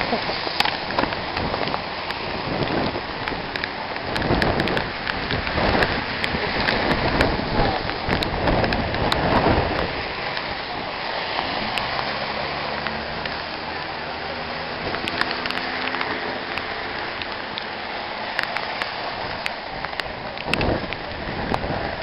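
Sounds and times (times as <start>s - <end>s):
heavy rain pouring down: 0.0s - 22.0s.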